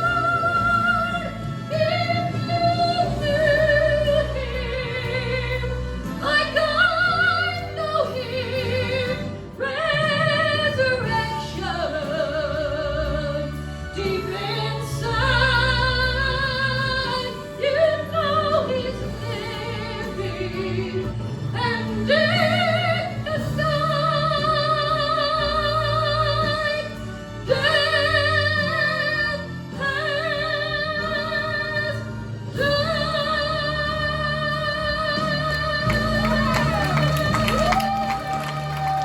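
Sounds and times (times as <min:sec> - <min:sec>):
person singing with vibrato: 0:00.0 - 0:39.0.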